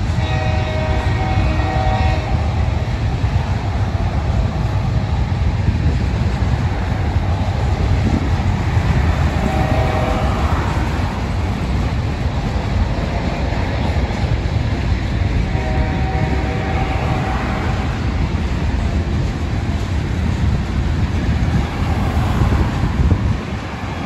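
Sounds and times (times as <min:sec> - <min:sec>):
railcars rumbling on rails: 0:00.0 - 0:24.0.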